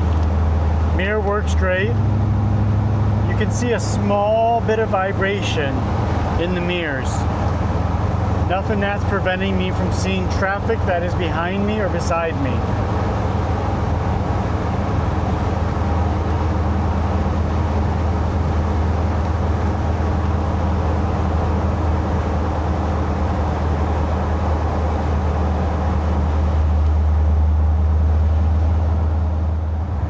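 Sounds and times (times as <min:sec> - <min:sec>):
car engine and exhaust drone: 0:00.0 - 0:30.0
road and wind noise: 0:00.0 - 0:30.0.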